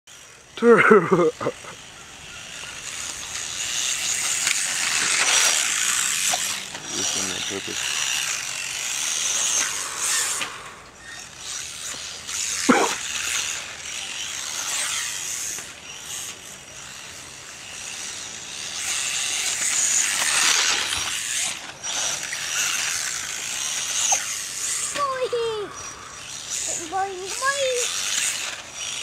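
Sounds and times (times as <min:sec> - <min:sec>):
rc truck motor whine: 0:00.1 - 0:29.0.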